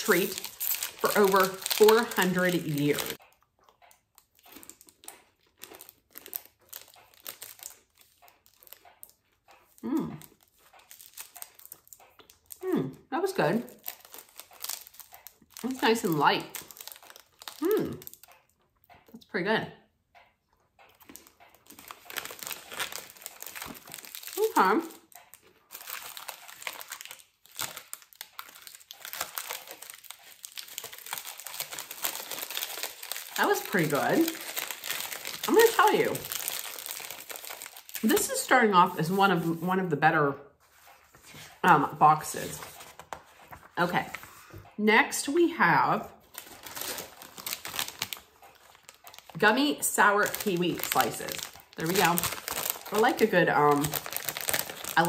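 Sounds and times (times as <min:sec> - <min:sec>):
plastic wrapper crinkling: 0:00.0 - 0:12.6, 0:13.6 - 0:18.8, 0:20.9 - 0:39.7, 0:40.7 - 0:44.6, 0:46.1 - 0:55.0.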